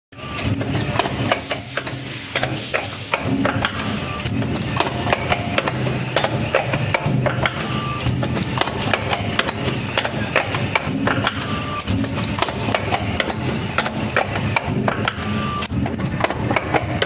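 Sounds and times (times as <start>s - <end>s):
metallic machine clicks and clacks: 0.4s - 17.0s.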